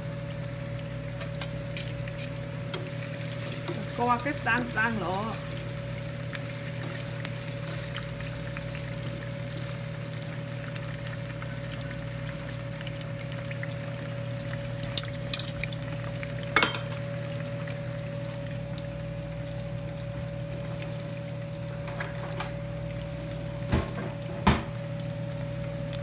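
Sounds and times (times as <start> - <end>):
constant hum: 0.0 - 26.0
tofu sizzling in frying pan: 0.0 - 26.0.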